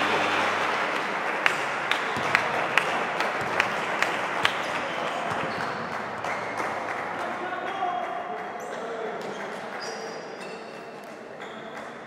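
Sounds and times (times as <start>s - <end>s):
spectators applauding: 0.0s - 9.9s.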